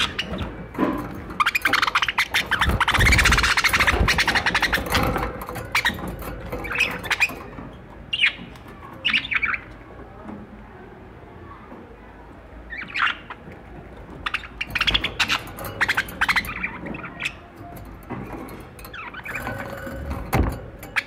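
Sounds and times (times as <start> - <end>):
budgerigars chattering and squawking: 0.0 - 9.7, 12.7 - 13.6, 14.2 - 21.0.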